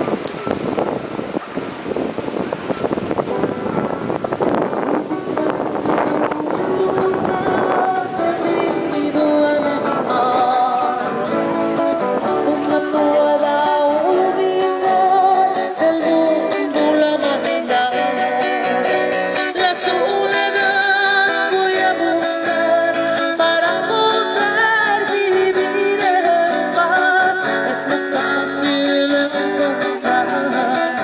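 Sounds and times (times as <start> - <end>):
acoustic guitar strummed and plucked: 0.0 - 31.0
woman singing into a microphone: 5.3 - 31.0.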